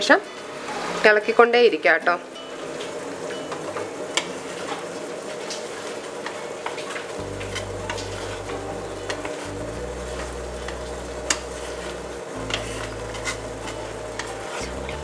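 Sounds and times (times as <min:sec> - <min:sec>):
steady low hum: 0:02.4 - 0:15.0.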